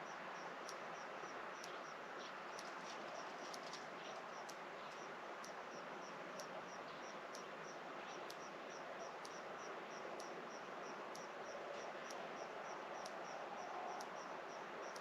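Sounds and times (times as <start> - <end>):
rural evening ambience hiss: 0.0 - 15.0
faint tick: 0.1 - 15.0.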